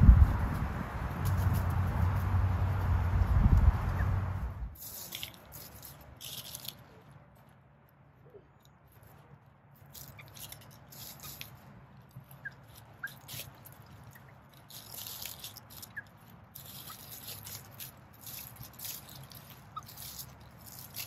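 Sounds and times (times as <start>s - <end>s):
rustling of dry leaves: 0.0s - 7.7s, 8.3s - 21.0s.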